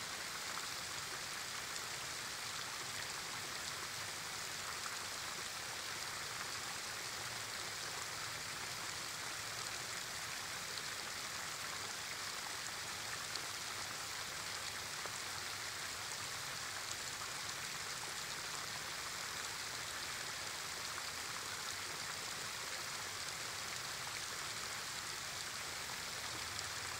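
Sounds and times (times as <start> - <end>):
small waterfall splashing on rocks: 0.0 - 26.9.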